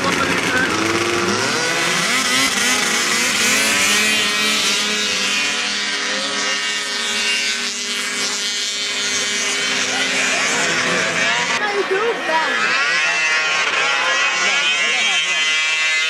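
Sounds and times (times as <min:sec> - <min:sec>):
snowmobile engines racing past: 0:00.0 - 0:16.0.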